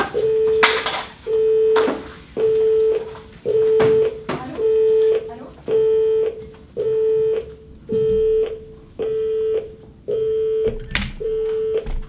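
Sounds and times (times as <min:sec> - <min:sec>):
telephone tone beeping: 0:00.0 - 0:12.0.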